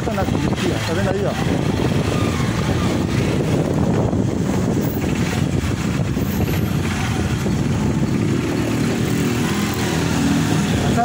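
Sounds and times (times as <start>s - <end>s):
motorcycle running: 0.0s - 11.0s
wind buffeting microphone: 0.0s - 11.0s.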